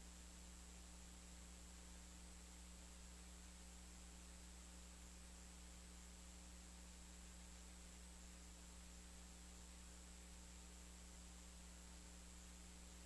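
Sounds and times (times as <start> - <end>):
faint electrical hum with hiss: 0.0 - 13.0.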